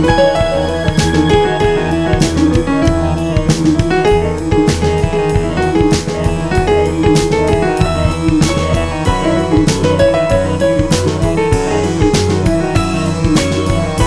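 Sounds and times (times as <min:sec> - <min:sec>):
bass line: 0:00.0 - 0:14.0
piano and keyboard: 0:00.0 - 0:14.0
steady drum beat: 0:00.0 - 0:14.0.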